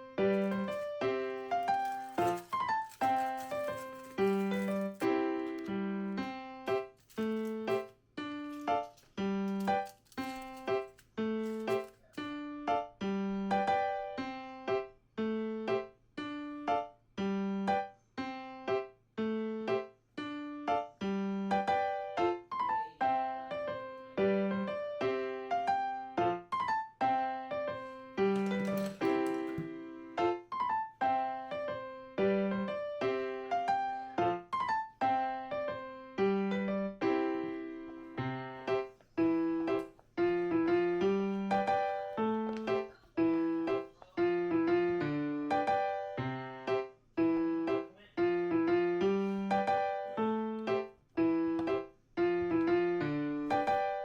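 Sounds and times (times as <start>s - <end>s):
bouncy electric piano tune: 0.0s - 54.0s.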